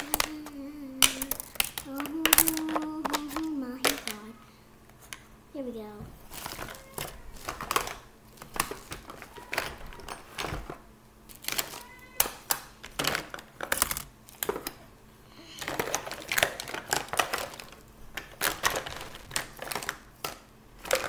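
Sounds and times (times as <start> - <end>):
plastic containers clicking: 0.0 - 4.3, 6.3 - 14.8, 15.6 - 21.0.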